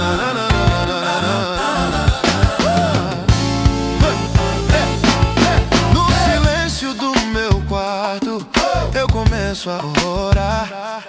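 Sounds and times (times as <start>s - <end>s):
gospel song instrumental: 0.0s - 11.0s.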